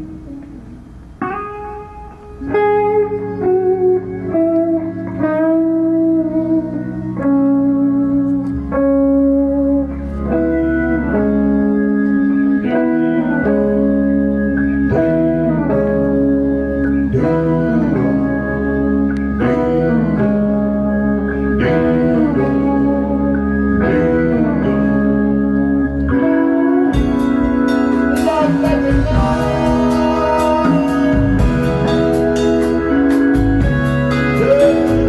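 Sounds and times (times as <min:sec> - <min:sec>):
electric guitar melody: 0:00.0 - 0:35.0
sustained chords: 0:00.0 - 0:35.0
low bass: 0:02.1 - 0:35.0.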